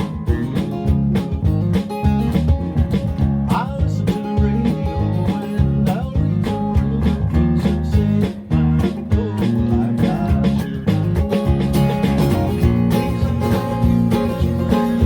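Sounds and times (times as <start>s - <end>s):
country folk band music: 0.0s - 15.0s
low bass line: 0.0s - 15.0s
strummed acoustic guitar: 0.0s - 15.0s.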